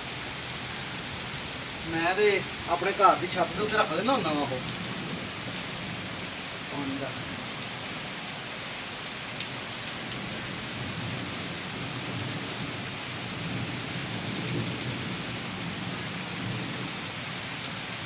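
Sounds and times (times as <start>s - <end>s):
heavy rain on concrete: 0.0s - 18.0s.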